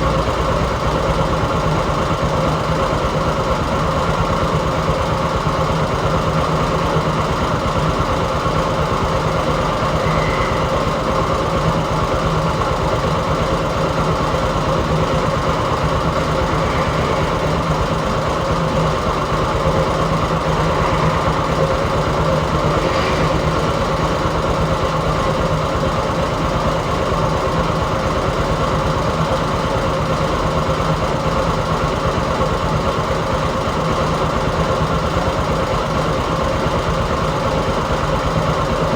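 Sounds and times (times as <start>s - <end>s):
heavy machinery engine idling: 0.0s - 38.8s.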